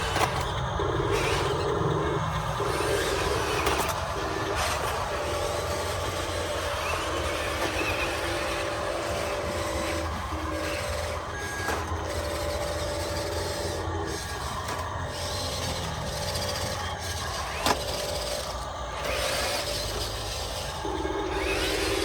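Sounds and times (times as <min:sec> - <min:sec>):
electric motors whining: 0:00.0 - 0:22.0.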